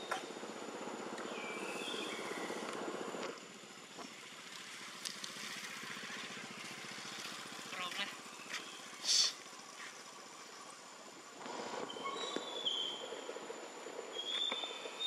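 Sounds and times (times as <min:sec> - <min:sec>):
engine pulsing rumble: 0:00.0 - 0:15.0
outdoor ambience: 0:00.0 - 0:15.0.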